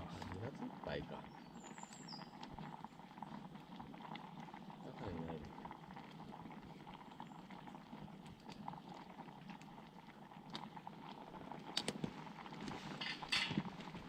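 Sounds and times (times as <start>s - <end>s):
fire popping: 0.0s - 14.0s
food crackling and bubbling over fire: 0.0s - 14.0s.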